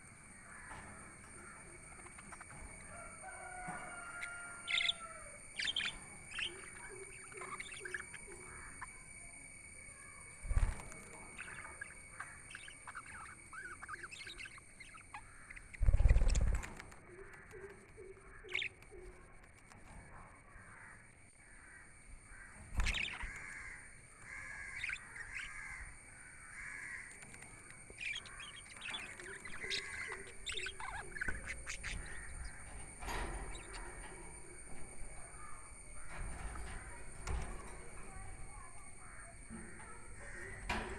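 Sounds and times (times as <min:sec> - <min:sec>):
budgerigars chirping and warbling: 0:00.4 - 0:09.0, 0:10.5 - 0:20.0, 0:22.5 - 0:40.9.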